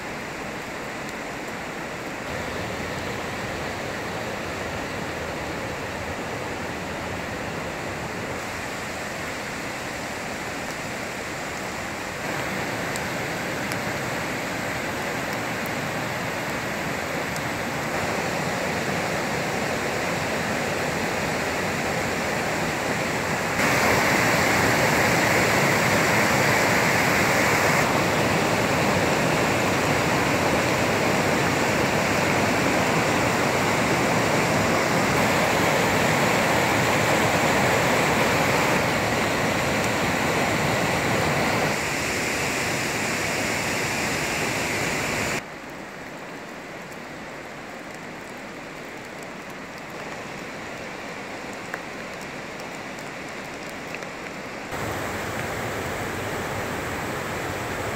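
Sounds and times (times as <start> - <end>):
stream rushing over boulders: 0.0 - 57.9.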